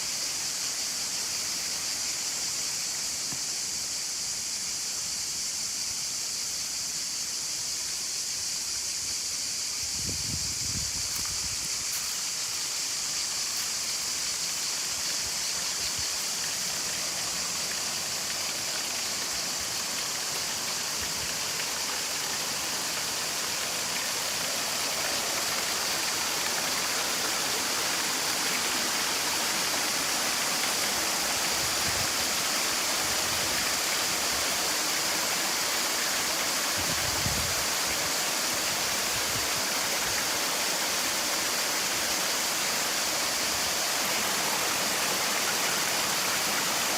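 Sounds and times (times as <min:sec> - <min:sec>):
stream rushing over waterfall: 0:08.4 - 0:46.9.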